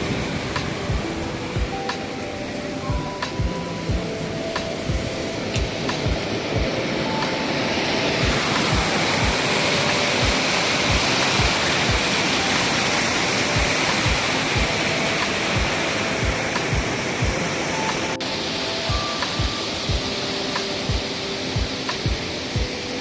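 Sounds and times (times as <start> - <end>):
background music with beat: 0.0 - 23.0
floodwater rushing: 0.0 - 23.0.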